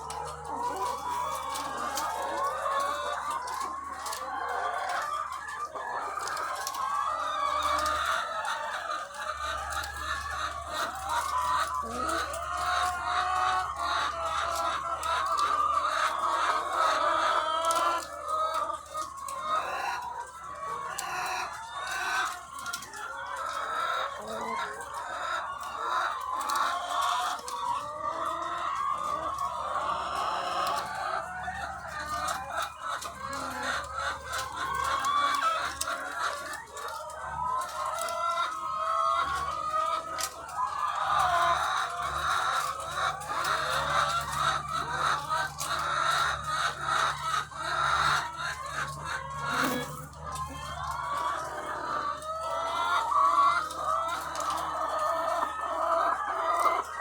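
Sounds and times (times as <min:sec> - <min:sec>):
hens clucking: 0:00.0 - 0:57.0.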